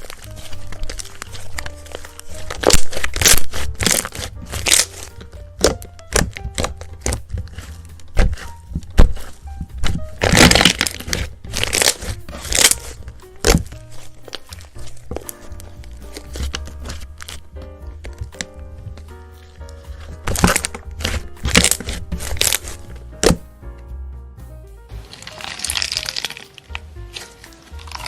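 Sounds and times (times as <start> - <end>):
sharp crackling and crunching: 0.0 - 23.4, 24.9 - 28.0
background music: 0.0 - 28.0.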